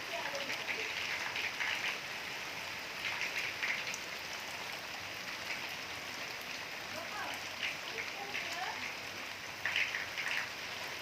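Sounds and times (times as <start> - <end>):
individual raindrops ticking: 0.0 - 11.0
steady rain falling: 0.0 - 11.0.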